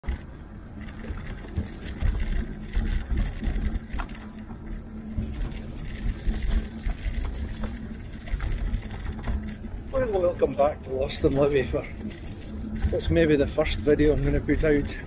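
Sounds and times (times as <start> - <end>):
sharp clicks and rattles: 0.0 - 15.0
steady low hum: 0.0 - 15.0.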